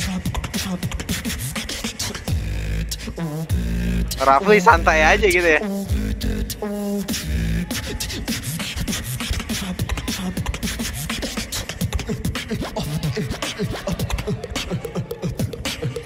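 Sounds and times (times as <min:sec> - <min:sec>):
beatboxing into a microphone: 0:00.0 - 0:16.0.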